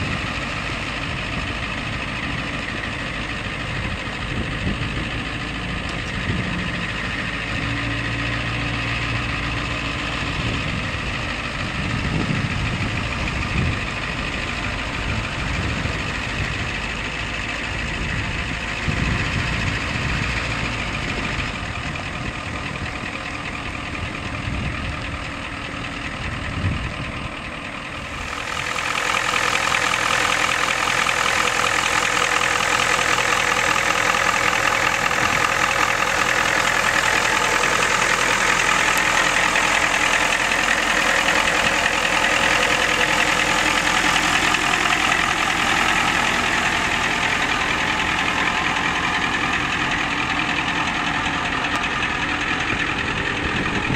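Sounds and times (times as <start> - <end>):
engine idling: 0.0 - 53.9
truck moving across gravel: 0.0 - 53.9.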